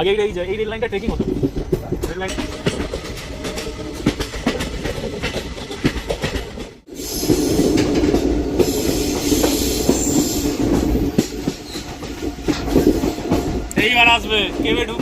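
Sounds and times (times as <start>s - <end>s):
train wheels clattering over rail joints: 0.0s - 15.0s.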